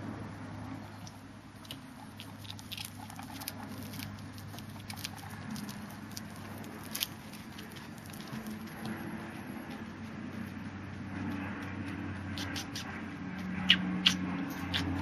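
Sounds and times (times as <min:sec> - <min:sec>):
guinea pig chewing greens: 0:00.0 - 0:15.0.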